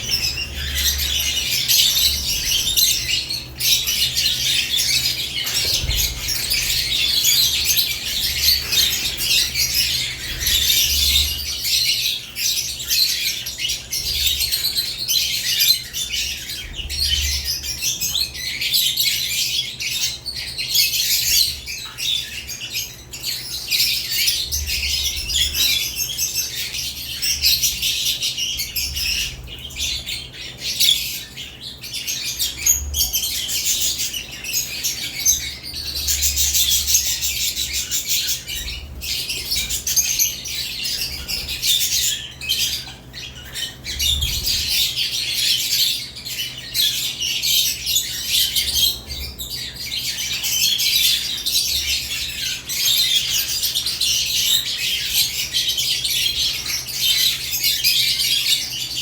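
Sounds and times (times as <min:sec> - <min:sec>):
lovebirds chirping and squawking: 0:00.0 - 0:59.0.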